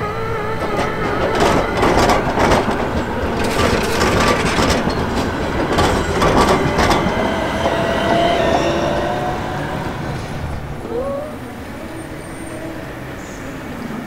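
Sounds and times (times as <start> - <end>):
tram rolling rumble: 0.0 - 14.0
tram wheels clacking: 0.0 - 14.0.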